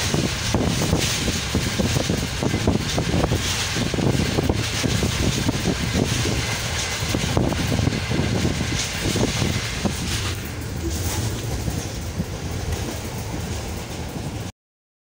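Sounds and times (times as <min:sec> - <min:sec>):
train low rumble: 0:00.0 - 0:14.5
wheels and carriage rattling: 0:00.0 - 0:14.5
wind gusting on microphone: 0:00.0 - 0:14.5.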